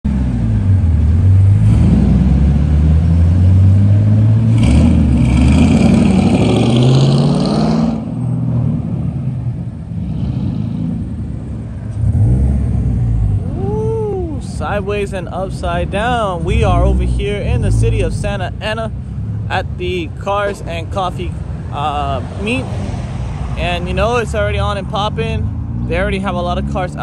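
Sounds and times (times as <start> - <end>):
sports cars accelerating: 0.1 - 27.0.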